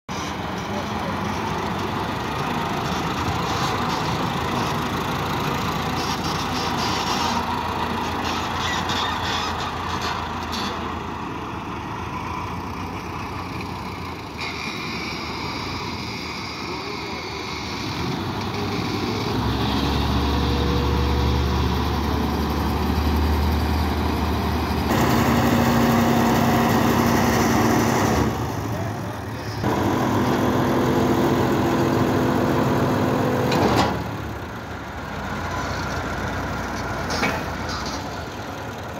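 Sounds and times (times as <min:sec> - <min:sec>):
diesel engines running: 0:00.1 - 0:38.9.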